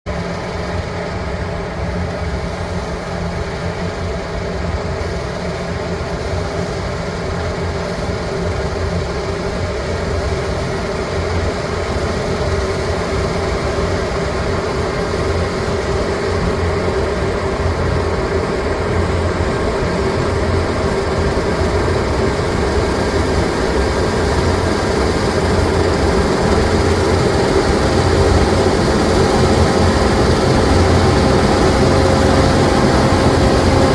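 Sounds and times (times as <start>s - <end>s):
combine harvester drone: 0.1s - 33.9s.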